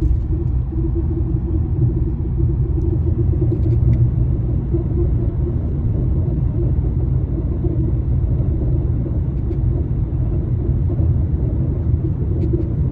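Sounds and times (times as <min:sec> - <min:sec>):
car road rumble: 0:00.0 - 0:12.9.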